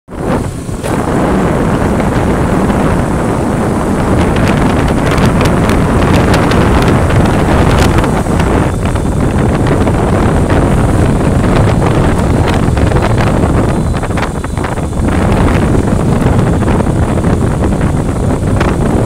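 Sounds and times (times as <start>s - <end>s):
road noise: 0.1s - 19.0s
wind buffeting microphone: 0.1s - 19.0s.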